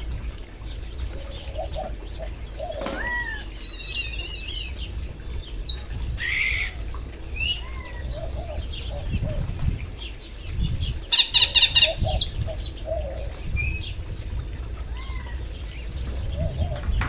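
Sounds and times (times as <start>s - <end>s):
songbirds chirping and calling: 0.0s - 17.0s
steady low rumble: 0.0s - 17.0s.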